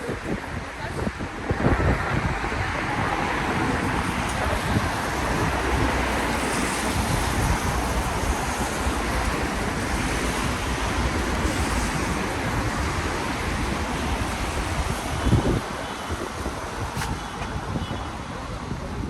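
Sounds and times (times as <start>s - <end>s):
road traffic rumble: 0.0s - 19.0s
wind on microphone: 0.0s - 19.0s.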